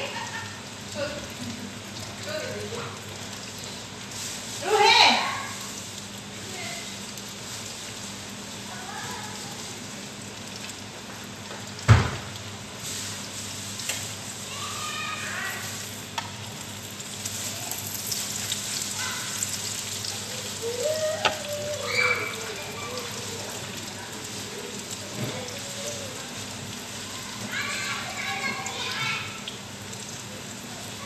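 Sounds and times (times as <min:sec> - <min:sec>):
food sizzling in frying pan: 0:00.0 - 0:31.0.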